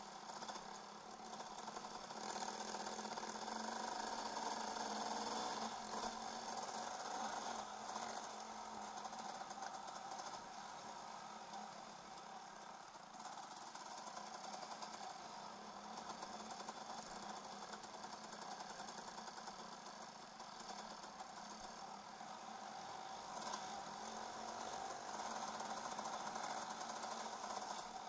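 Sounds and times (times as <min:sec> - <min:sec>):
two-stroke motorcycle engine: 0:00.0 - 0:28.0.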